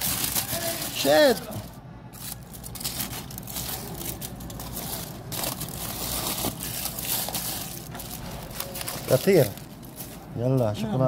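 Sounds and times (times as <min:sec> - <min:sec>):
aluminium foil crinkling: 0:00.0 - 0:10.7.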